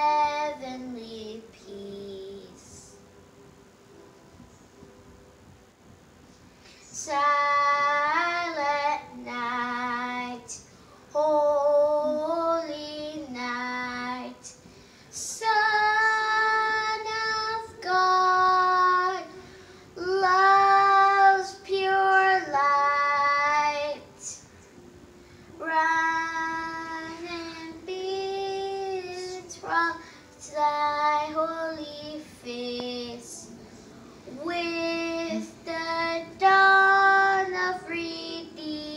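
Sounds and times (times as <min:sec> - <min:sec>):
girl singing a carol: 0:00.0 - 0:03.1, 0:06.6 - 0:38.9.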